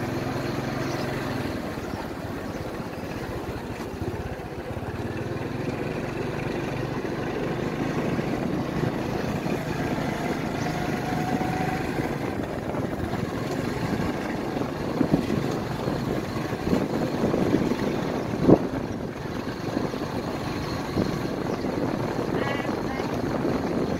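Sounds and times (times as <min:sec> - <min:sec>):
motorbike engine running: 0:00.0 - 0:23.9.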